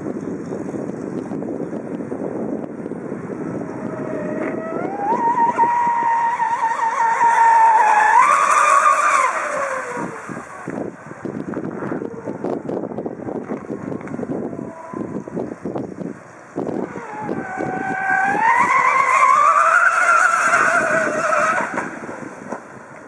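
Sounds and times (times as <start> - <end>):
choppy water noise: 0.0 - 23.0
rc boat motor whining: 2.1 - 23.0.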